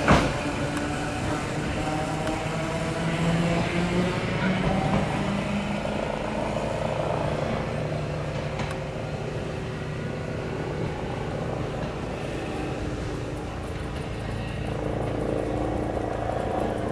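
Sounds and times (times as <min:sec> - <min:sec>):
tram electric motor hum: 0:00.0 - 0:16.9.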